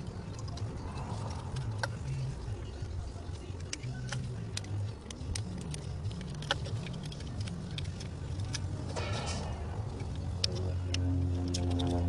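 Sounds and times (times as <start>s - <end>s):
sharp clicks and scratches: 0.0s - 12.0s
steady low hum: 0.0s - 12.0s.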